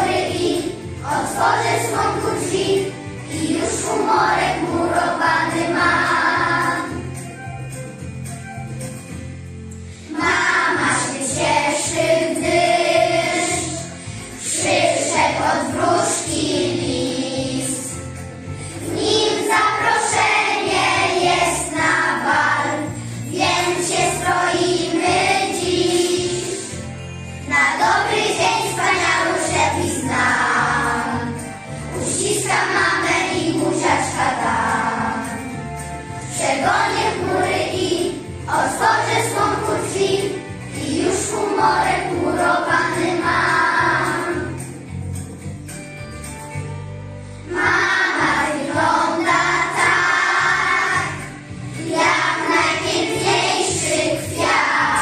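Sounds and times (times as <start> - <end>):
children singing together: 0.0 - 7.2, 10.1 - 26.8, 27.5 - 35.6, 36.2 - 44.7, 47.5 - 55.0
instrumental accompaniment: 0.0 - 55.0.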